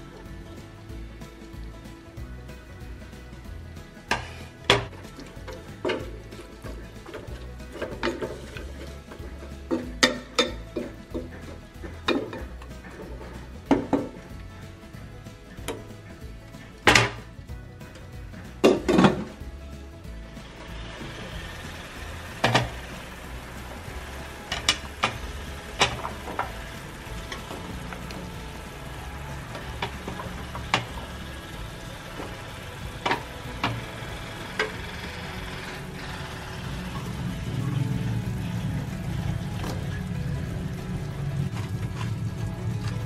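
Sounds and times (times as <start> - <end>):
pork sizzling in a pot: 0.0 - 43.0.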